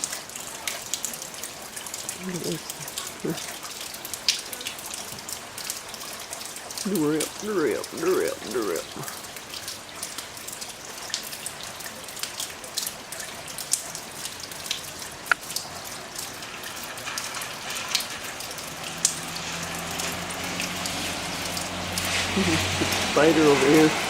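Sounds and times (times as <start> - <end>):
drips tapping from eaves: 0.0 - 24.0
heavy rain falling: 0.0 - 24.0.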